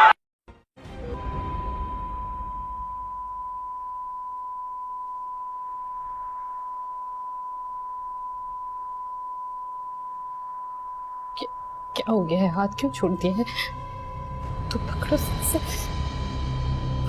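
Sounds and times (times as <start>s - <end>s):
heart monitor flatline beep: 1.3s - 17.0s.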